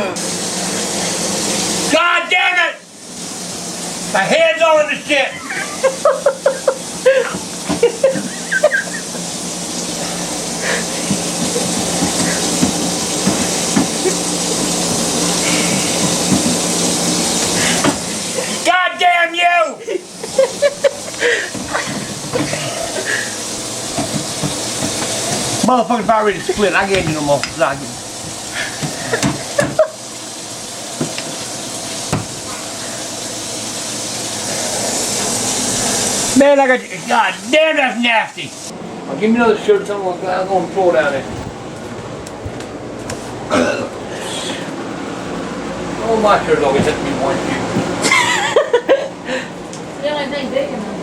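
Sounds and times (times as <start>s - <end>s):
water running: 0.0s - 51.0s.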